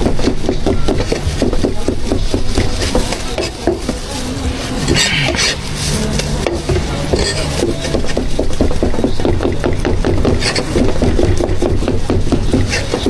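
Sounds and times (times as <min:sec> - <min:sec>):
cleaver chopping on wooden board: 0:00.0 - 0:04.0, 0:06.4 - 0:13.0.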